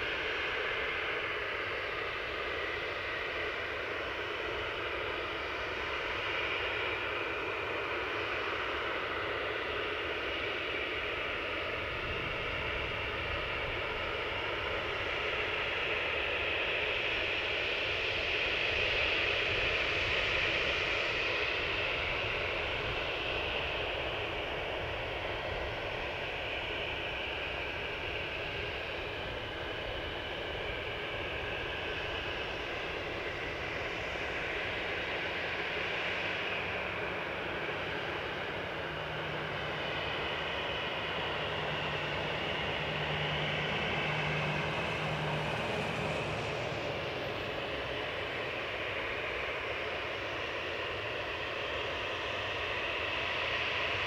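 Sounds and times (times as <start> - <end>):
aircraft turbine engines whining: 0.0 - 54.0.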